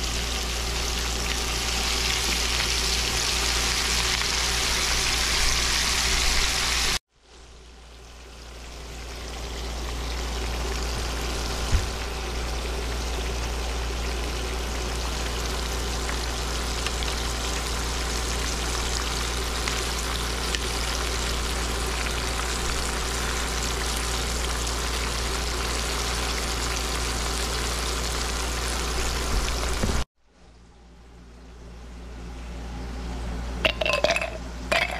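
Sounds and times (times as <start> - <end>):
fish deep-frying in hot oil: 0.0 - 30.1.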